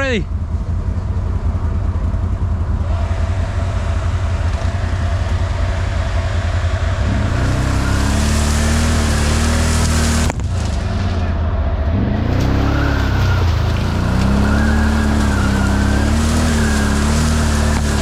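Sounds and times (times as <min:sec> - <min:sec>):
off-road vehicle engine: 0:00.0 - 0:18.0.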